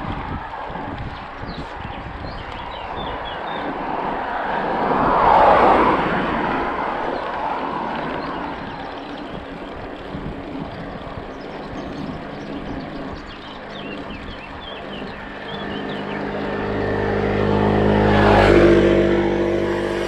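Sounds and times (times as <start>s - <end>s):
steady rushing noise: 0.0s - 20.0s
motor vehicle passing close: 0.9s - 20.0s.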